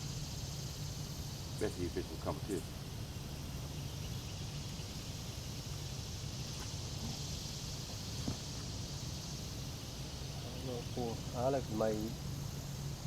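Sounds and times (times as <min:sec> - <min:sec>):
high steady hiss: 0:00.0 - 0:13.0
low even hum: 0:00.0 - 0:13.0.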